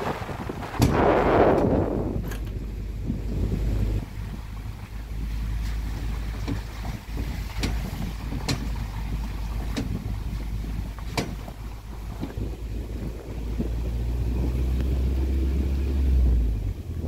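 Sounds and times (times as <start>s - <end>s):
vehicle engine and tyres rumble: 0.0s - 17.0s.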